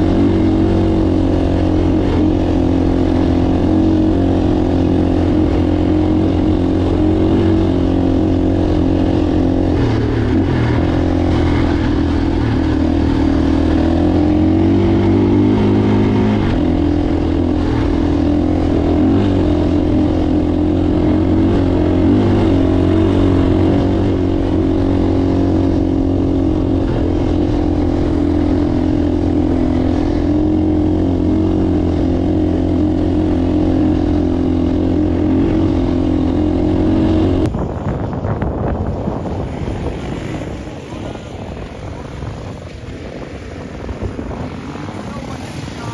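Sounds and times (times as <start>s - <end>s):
motocross bike engine running: 0.0s - 45.9s.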